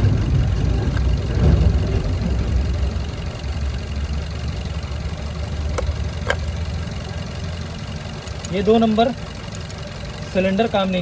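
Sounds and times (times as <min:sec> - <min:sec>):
car engine idling unevenly: 0:00.0 - 0:11.0.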